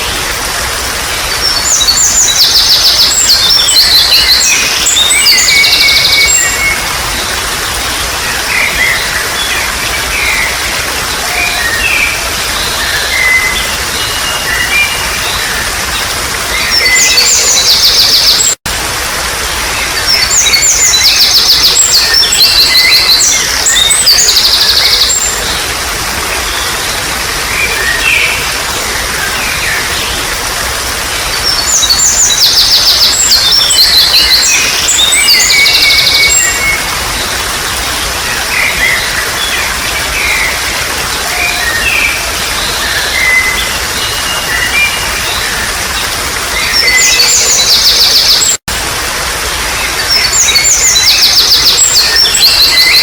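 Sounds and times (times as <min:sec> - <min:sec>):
water trickling: 0:00.0 - 0:53.0.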